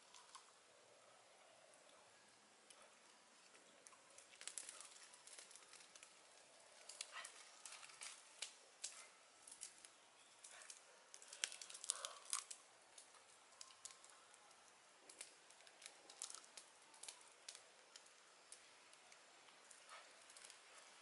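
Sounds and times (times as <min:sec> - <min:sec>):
seed pods clicking and crackling: 0:03.5 - 0:21.0.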